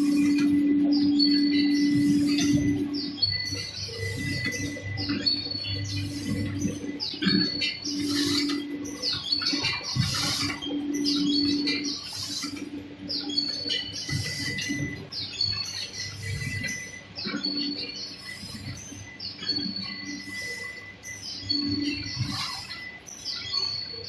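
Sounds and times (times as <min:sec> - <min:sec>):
packing machine humming: 0:00.0 - 0:23.1.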